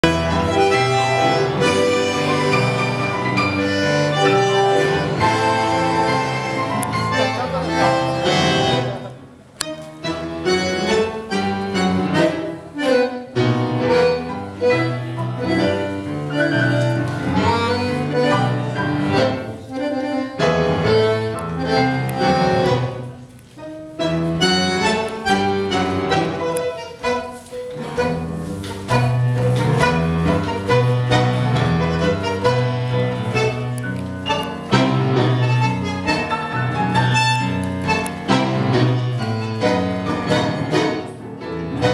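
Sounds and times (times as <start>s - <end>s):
double bass: 0.0s - 9.2s, 9.8s - 23.2s, 24.0s - 41.9s
accordion: 0.0s - 41.9s.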